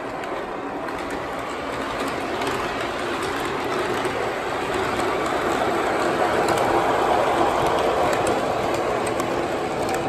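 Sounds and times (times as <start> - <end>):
model train rolling rumble: 0.0 - 10.0.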